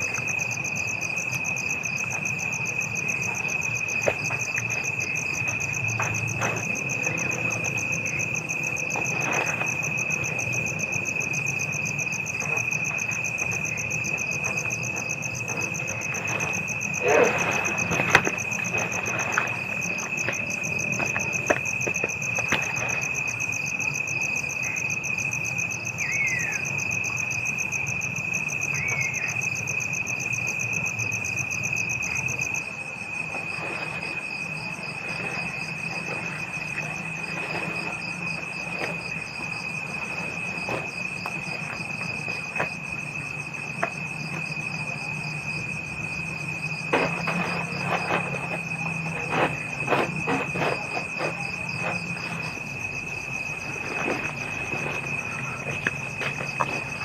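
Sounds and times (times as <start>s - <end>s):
crickets trilling: 0.0s - 57.0s
pulsing insect chirr: 0.0s - 57.0s.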